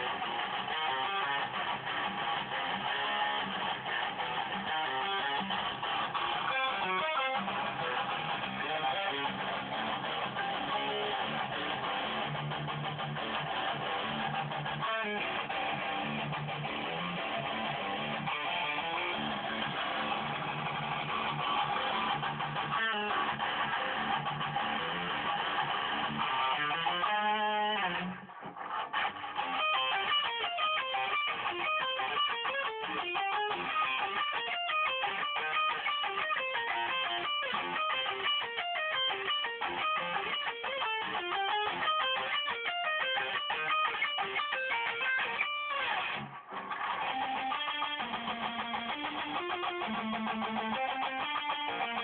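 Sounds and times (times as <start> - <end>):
electric guitar metal riff: 0.0 - 52.0.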